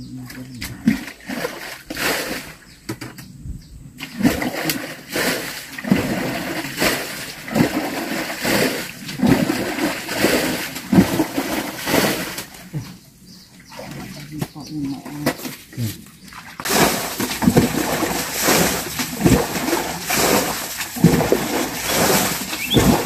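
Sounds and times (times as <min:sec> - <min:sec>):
water splashing: 0:00.0 - 0:02.7, 0:04.0 - 0:23.0.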